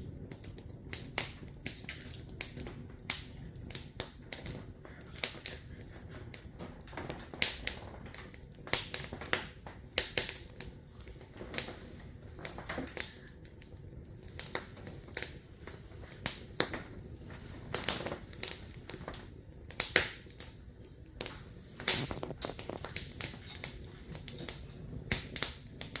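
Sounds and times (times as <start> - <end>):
firewood crackling and popping: 0.0 - 26.0
low steady rumble: 0.0 - 26.0.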